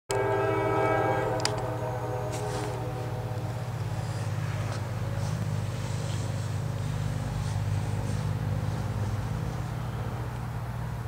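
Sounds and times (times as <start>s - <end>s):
locomotive air horn chord: 0.1s - 9.4s
steady low rumble: 0.1s - 11.0s.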